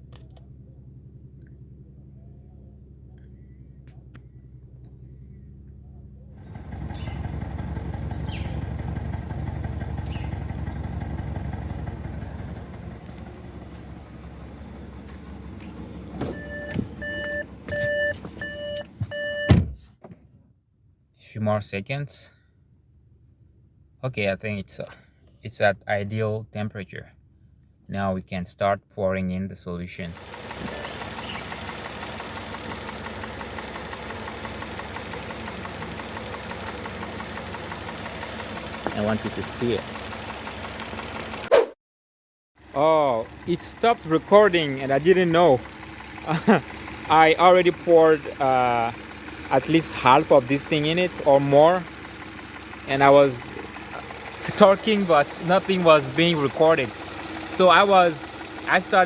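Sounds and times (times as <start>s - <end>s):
car engine idling: 0.0s - 19.5s, 30.1s - 41.5s, 42.6s - 59.0s.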